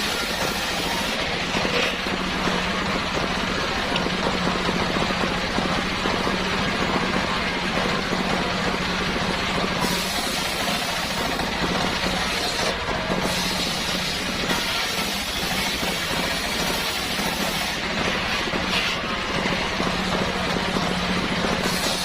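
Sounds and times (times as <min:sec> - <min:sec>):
engine-driven circular saw running: 0:00.0 - 0:22.0.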